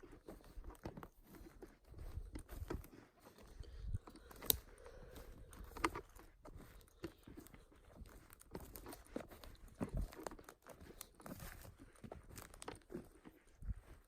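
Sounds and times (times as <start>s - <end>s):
twigs and leaves crunching: 0.0s - 14.0s.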